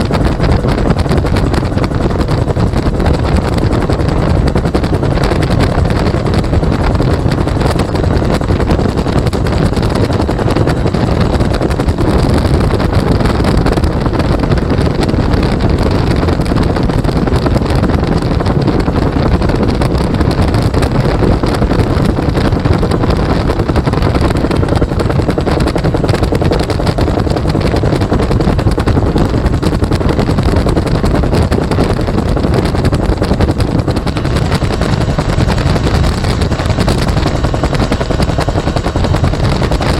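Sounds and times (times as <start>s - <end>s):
helicopter engine and rotor: 0.0s - 39.9s
wind rushing: 0.0s - 39.9s.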